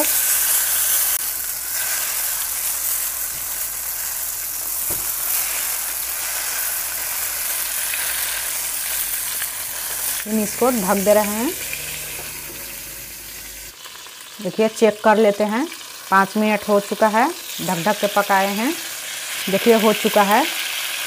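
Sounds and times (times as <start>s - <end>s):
eggplants sizzling in hot oil: 0.0s - 21.0s.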